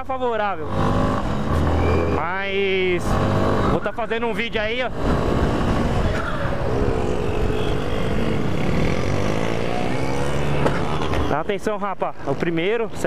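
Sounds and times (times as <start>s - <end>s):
motorcycle engine revving: 0.5s - 11.5s.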